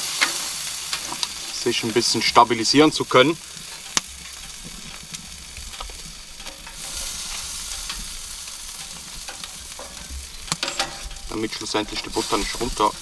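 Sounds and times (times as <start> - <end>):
lobster sizzling on grill: 0.0 - 13.0.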